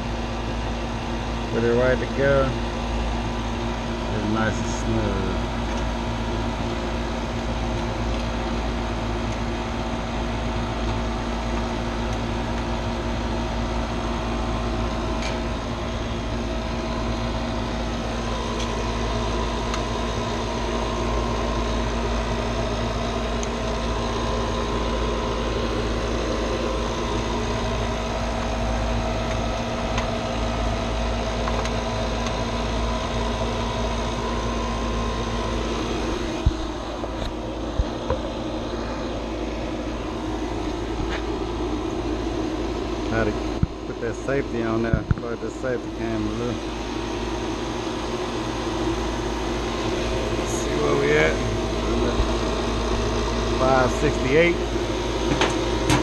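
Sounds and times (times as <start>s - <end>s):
vacuum pump motor hum: 0.0s - 56.0s.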